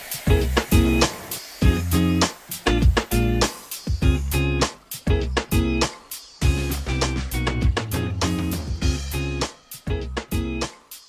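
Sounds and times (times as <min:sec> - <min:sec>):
guitar background music: 0:00.3 - 0:11.0.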